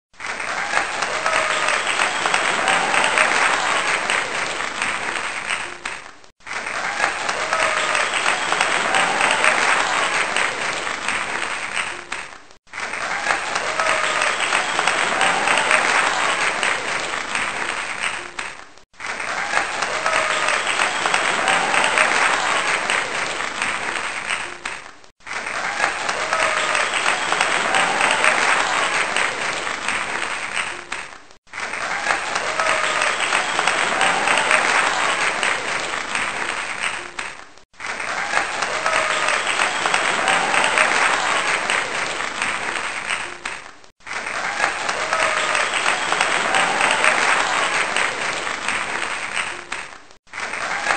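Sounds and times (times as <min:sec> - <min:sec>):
crowd applause: 0:00.1 - 0:50.9.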